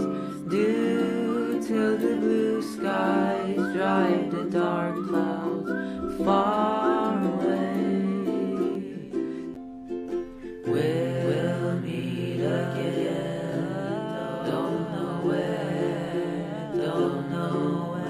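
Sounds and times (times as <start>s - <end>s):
person singing: 0.0s - 18.0s
plucked guitar accompaniment: 0.0s - 18.0s.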